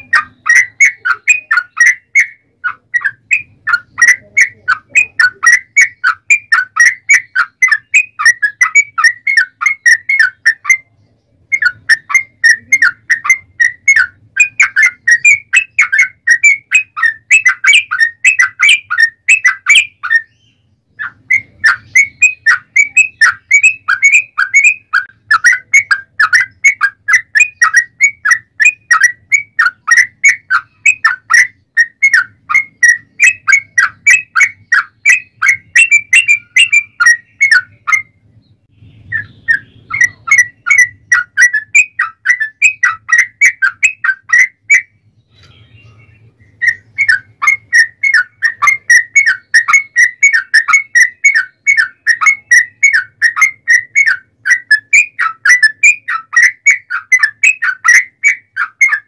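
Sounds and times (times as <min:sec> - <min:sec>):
bulbul song of whistled notes: 0:00.0 - 0:38.2, 0:38.8 - 0:59.0.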